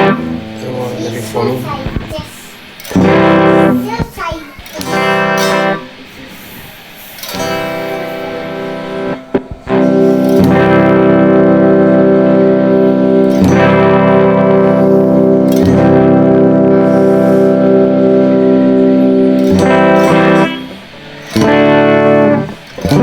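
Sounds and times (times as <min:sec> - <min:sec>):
guitar chords strummed: 0:00.0 - 0:23.0.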